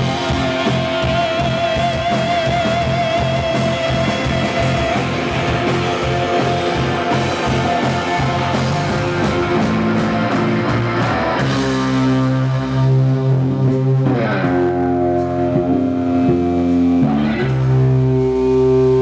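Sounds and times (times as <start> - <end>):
blues-rock band playing: 0.0 - 19.0.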